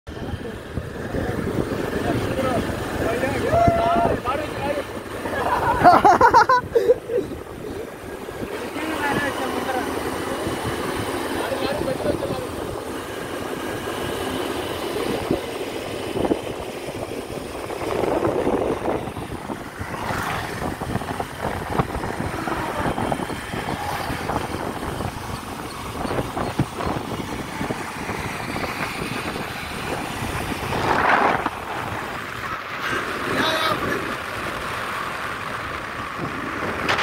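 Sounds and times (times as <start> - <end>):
motorcycles running: 0.1 - 37.0
wind rushing over microphone: 0.1 - 37.0.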